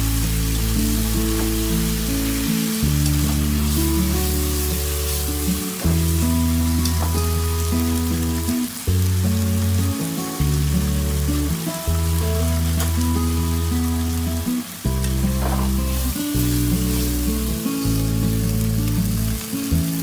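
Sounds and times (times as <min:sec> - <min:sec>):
background music with bass: 0:00.0 - 0:20.0
food sizzling in a frying pan: 0:00.0 - 0:20.0.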